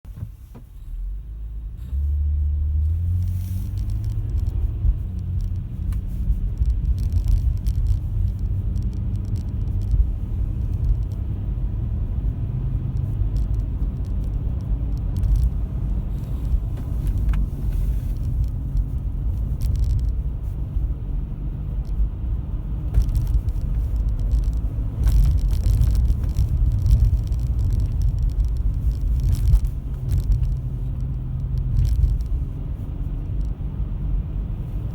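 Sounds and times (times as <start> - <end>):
road rumble: 0.0 - 34.9.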